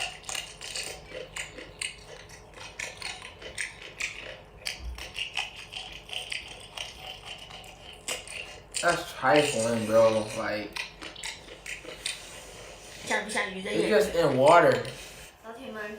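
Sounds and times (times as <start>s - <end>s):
crunching and chewing food: 0.0s - 15.2s.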